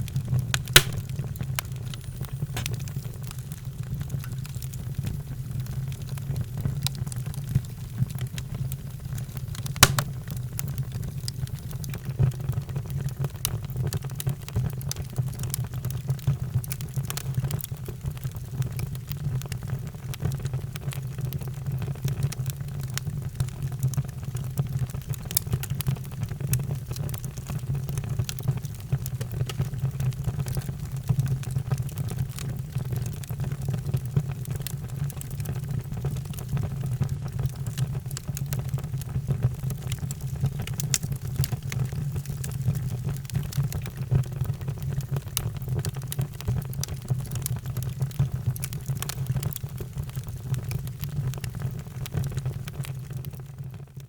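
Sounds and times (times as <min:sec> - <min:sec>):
fire rumbling: 0:00.0 - 0:53.7
fire crackling and popping: 0:00.0 - 0:54.0.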